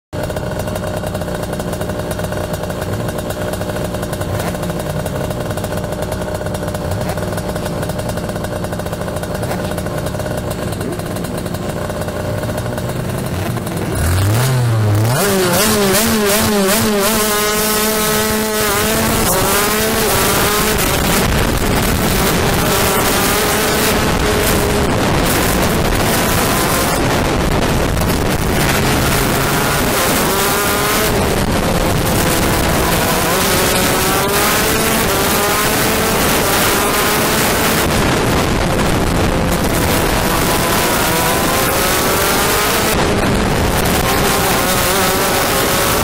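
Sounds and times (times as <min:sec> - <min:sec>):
kart engine revving: 0:00.2 - 0:46.0.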